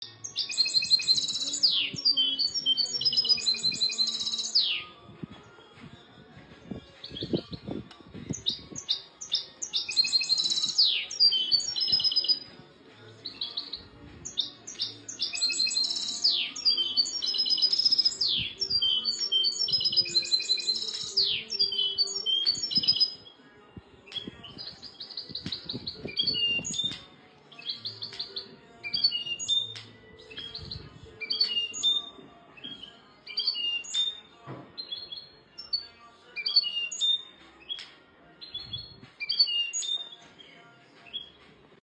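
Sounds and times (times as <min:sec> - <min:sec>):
finch singing: 0:00.0 - 0:05.8, 0:06.7 - 0:12.6, 0:13.2 - 0:23.4, 0:24.0 - 0:41.4.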